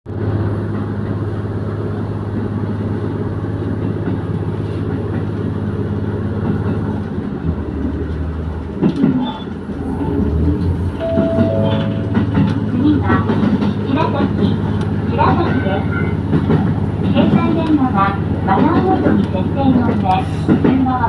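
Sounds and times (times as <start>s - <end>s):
diesel railcar engine drone: 0.1s - 21.0s
wheels rumbling on rails: 0.1s - 21.0s.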